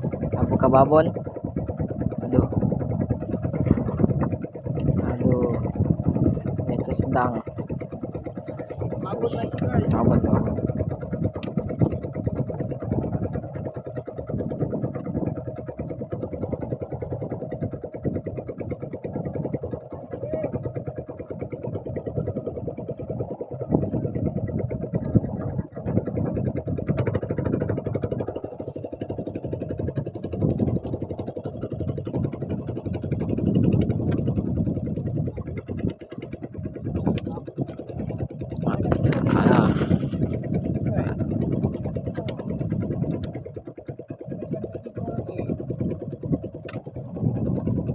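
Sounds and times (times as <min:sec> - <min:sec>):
boat engine idling: 0:00.0 - 0:47.9.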